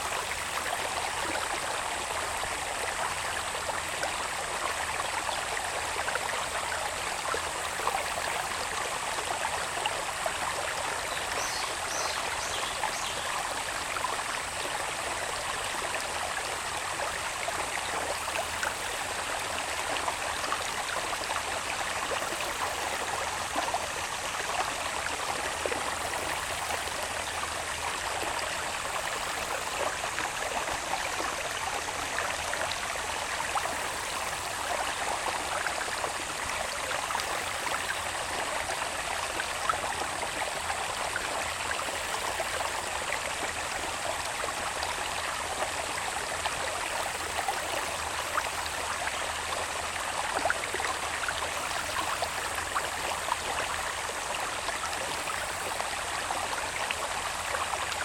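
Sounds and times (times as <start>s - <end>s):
water babbling: 0.0s - 58.0s.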